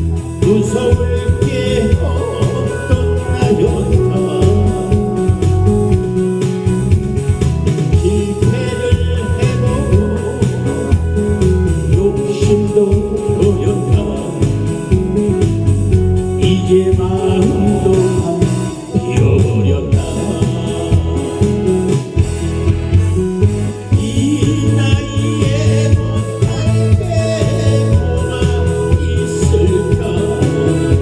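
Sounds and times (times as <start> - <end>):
trot song with steady beat: 0.0 - 31.0.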